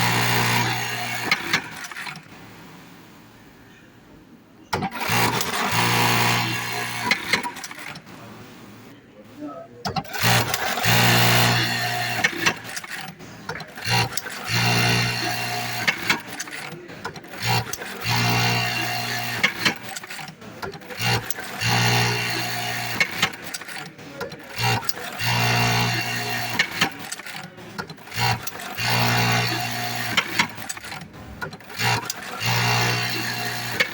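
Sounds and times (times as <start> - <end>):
sewing machine stitching hum: 0.0 - 2.5, 4.7 - 8.1, 9.9 - 33.9.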